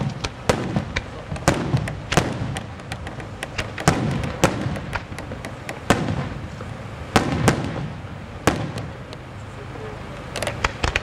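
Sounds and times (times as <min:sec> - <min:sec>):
firework shells bursting: 0:00.0 - 0:09.4, 0:10.1 - 0:11.0
low rolling echo: 0:00.0 - 0:11.0.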